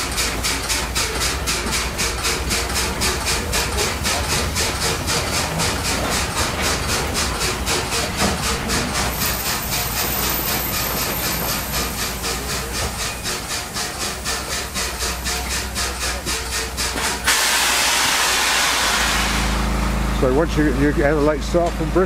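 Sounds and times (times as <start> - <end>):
steam locomotive hissing rhythmically: 0.0 - 22.0.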